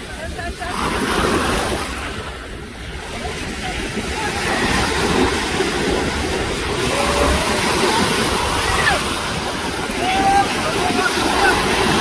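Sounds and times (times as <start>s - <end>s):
sea surf washing in: 0.0s - 12.0s.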